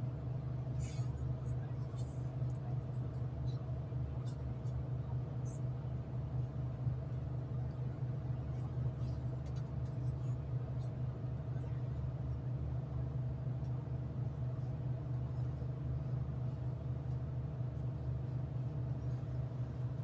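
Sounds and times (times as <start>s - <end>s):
train running hum and rumble: 0.0s - 20.0s.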